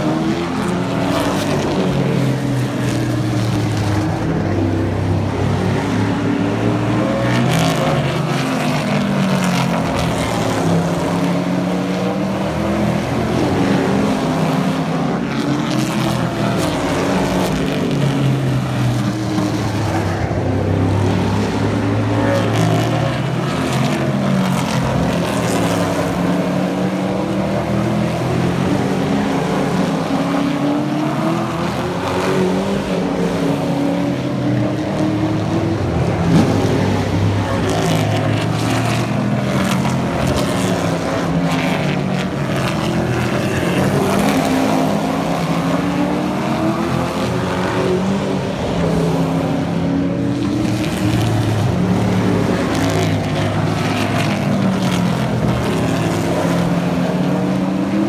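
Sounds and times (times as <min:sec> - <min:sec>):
racing truck engines passing: 0:00.0 - 0:58.0.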